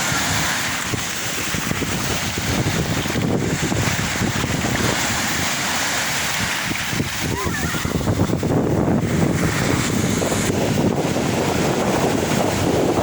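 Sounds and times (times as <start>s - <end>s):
sea waves washing on shore: 0.0s - 13.0s
wind buffeting microphone: 0.0s - 13.0s.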